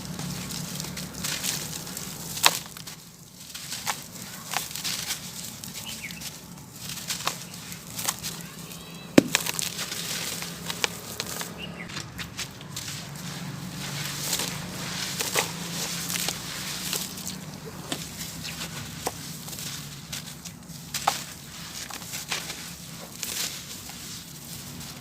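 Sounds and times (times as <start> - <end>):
sand-cement crumbling and crunching: 0.0 - 25.0
sharp cracks: 0.4 - 22.6.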